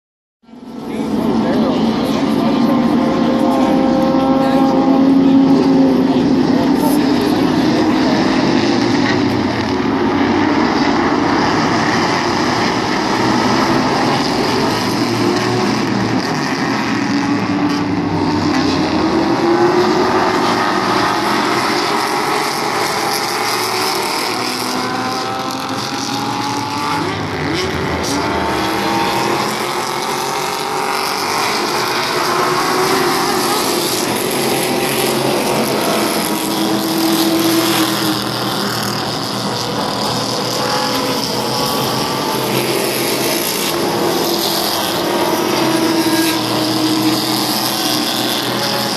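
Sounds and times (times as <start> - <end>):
race cars passing: 0.4 - 48.9.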